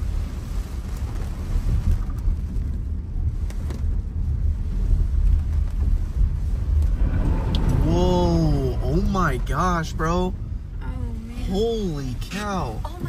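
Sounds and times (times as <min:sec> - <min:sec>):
rain tapping on windshield: 0:00.0 - 0:13.0
road water and wind rumble: 0:00.0 - 0:13.0.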